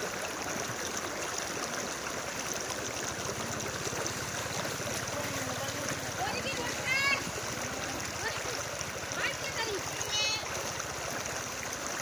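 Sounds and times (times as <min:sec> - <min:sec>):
water sloshing from wading: 0:00.0 - 0:12.0.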